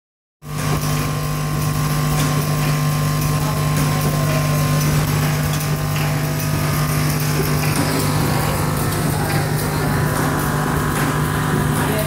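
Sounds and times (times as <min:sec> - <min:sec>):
high machine whine: 0:00.4 - 0:12.0
machine mechanical hum: 0:00.4 - 0:12.0.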